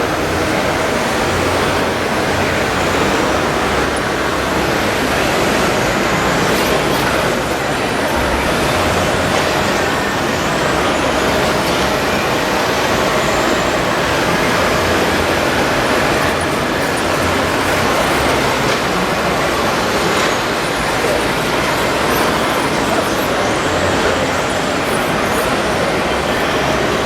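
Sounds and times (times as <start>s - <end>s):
model bulldozer running noise: 0.0s - 27.0s.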